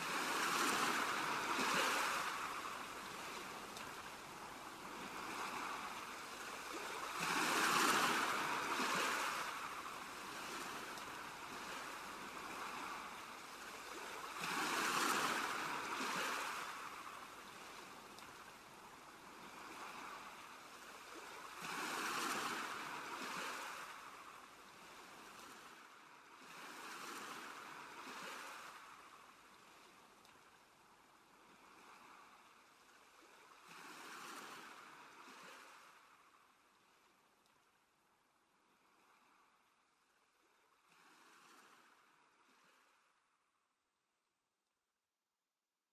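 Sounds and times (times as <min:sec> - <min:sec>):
ocean waves washing ashore: 0:00.0 - 0:37.0.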